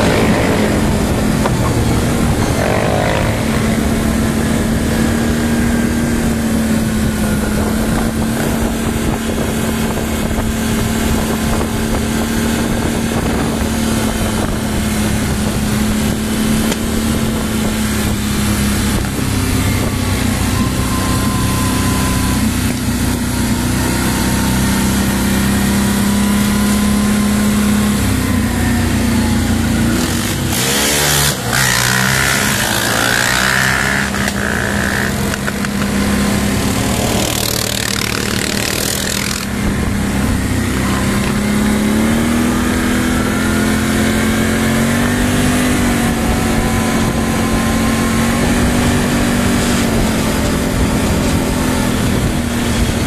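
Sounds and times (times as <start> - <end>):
quad bike engine running: 0.0 - 53.0
wind noise on microphone: 0.0 - 53.0.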